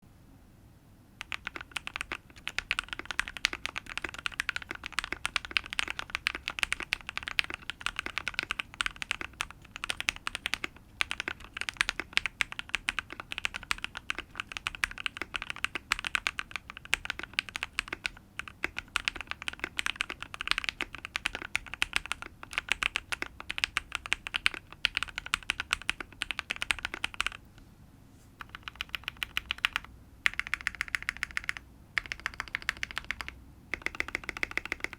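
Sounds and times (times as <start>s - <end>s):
mechanical keyboard typing: 1.2s - 27.4s, 28.4s - 34.9s.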